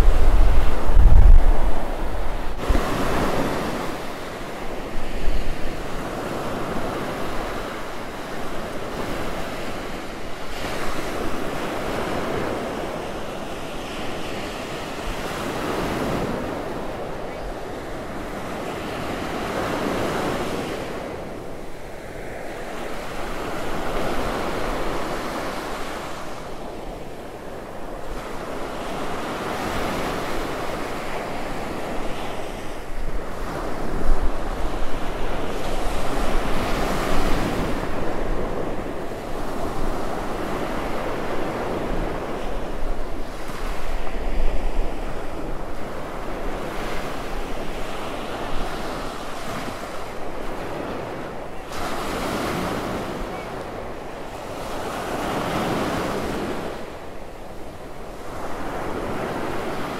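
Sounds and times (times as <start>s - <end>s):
ocean surf breaking: 0.0s - 59.9s
wind rumble on microphone: 0.0s - 59.9s.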